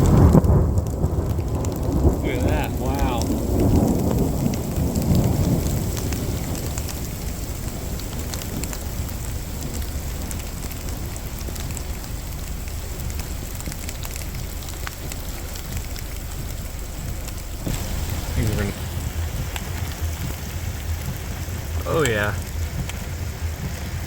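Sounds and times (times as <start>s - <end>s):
heavy rain falling: 0.0s - 24.0s
raindrop ticks: 0.0s - 24.0s
thunder rumble: 0.0s - 24.0s.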